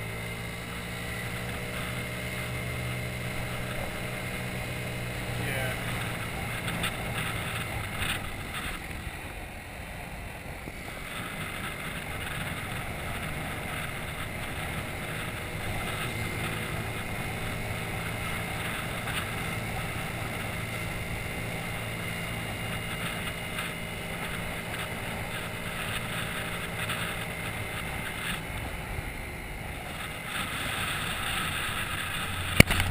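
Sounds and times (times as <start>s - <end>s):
scooter engine running: 0.0s - 32.9s.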